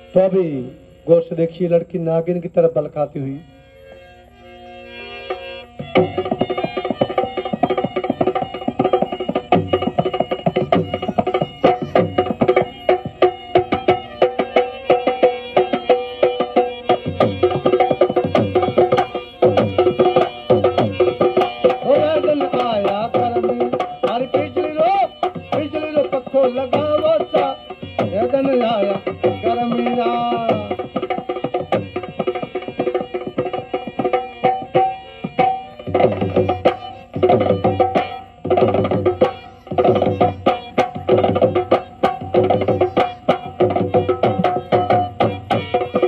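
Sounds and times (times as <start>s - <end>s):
held melody line: 3.3s - 46.0s
hand drum fast rhythm: 5.9s - 46.0s.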